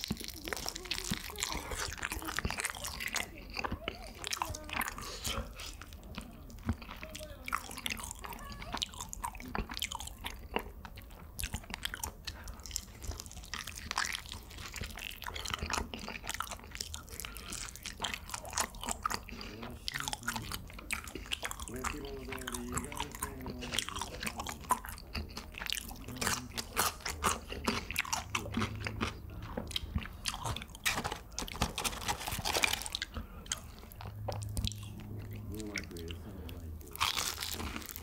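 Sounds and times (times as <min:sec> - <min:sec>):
person chewing and crunching: 0:00.0 - 0:38.0.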